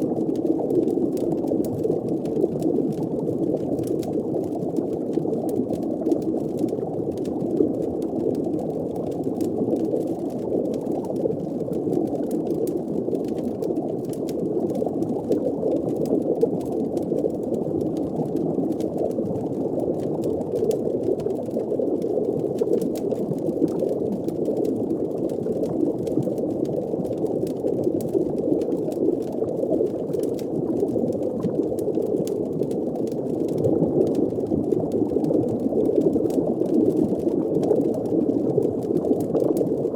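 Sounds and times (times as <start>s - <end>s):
faint crackles: 0.0s - 39.9s
underwater bubbling wash: 0.0s - 39.9s.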